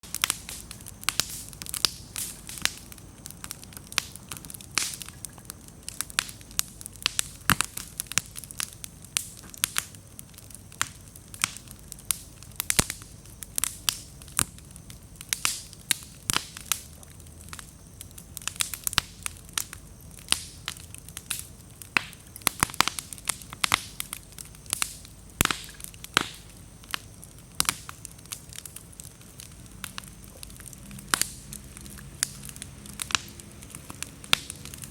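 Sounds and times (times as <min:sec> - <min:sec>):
bonfire crackling and popping: 0:00.0 - 0:34.9
fire hissing: 0:00.0 - 0:34.9.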